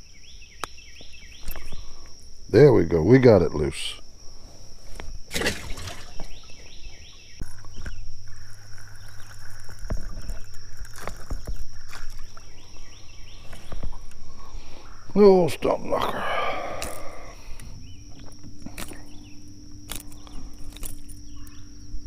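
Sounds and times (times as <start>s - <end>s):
crickets droning: 0.0s - 22.0s.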